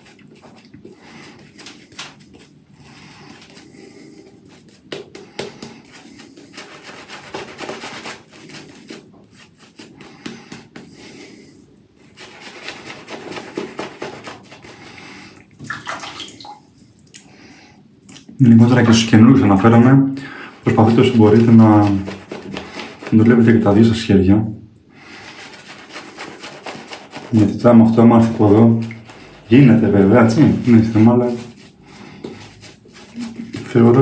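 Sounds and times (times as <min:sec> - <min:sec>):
shaving brush scrubbing lather: 0:00.0 - 0:15.4, 0:20.5 - 0:24.1, 0:25.0 - 0:34.0.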